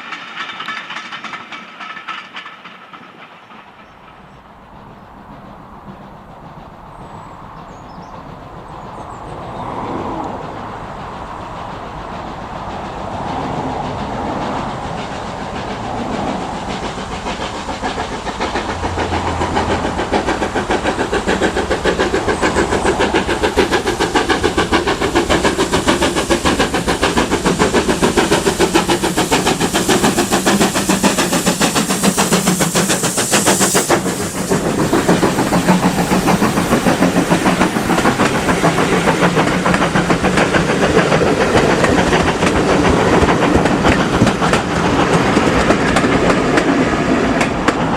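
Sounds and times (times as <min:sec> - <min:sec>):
steam hiss: 0:00.0 - 0:47.9
steam locomotive chugging: 0:00.0 - 0:47.9.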